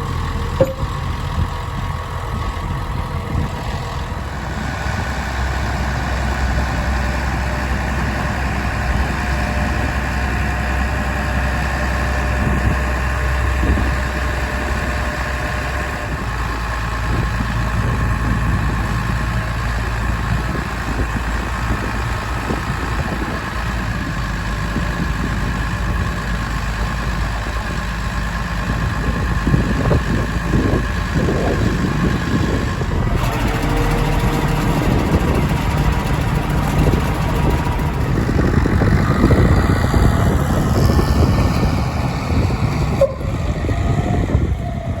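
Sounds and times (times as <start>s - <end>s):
tractor diesel engine idling: 0.0s - 45.0s.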